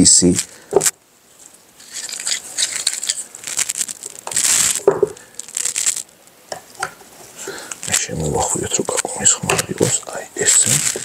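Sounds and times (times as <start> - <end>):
gloved hands rustling and scraping: 0.0 - 11.0.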